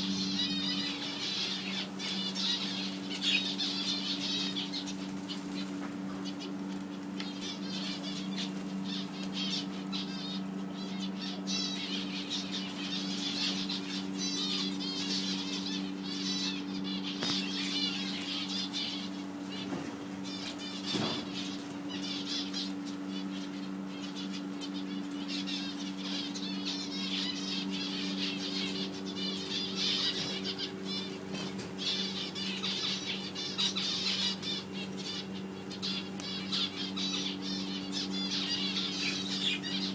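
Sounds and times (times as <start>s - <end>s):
caged birds chirping: 0.0s - 39.9s
low electrical hum: 0.0s - 39.9s.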